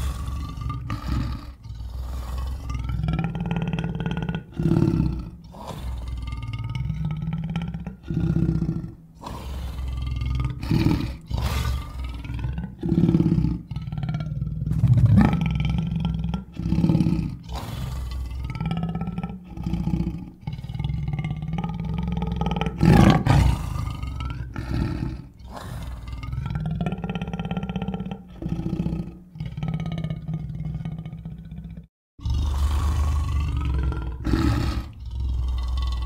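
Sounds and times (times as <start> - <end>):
cartoon cougar growls and roars: 0.0 - 36.0.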